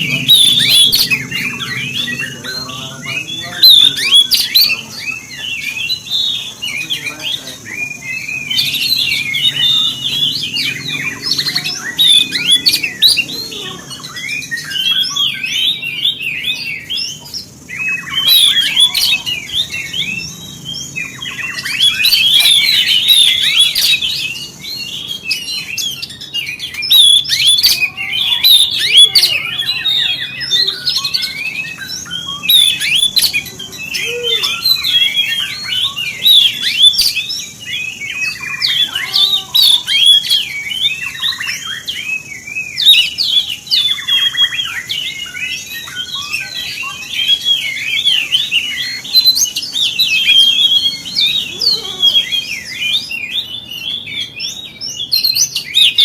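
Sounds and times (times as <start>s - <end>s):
bird singing chattering song: 0.0s - 56.0s.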